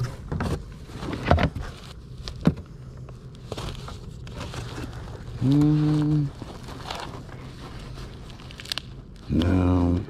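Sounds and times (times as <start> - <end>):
rummaging in cardboard box: 0.0 - 9.4.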